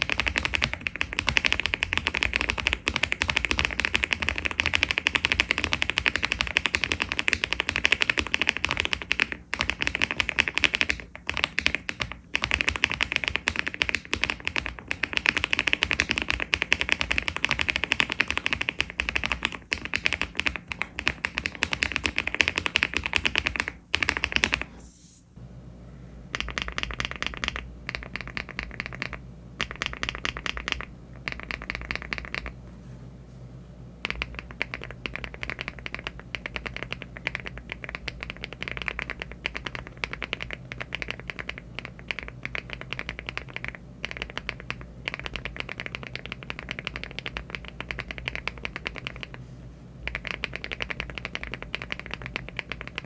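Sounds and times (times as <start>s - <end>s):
mechanical keyboard typing: 0.0s - 24.7s, 26.3s - 32.6s, 34.0s - 49.4s, 50.0s - 53.0s.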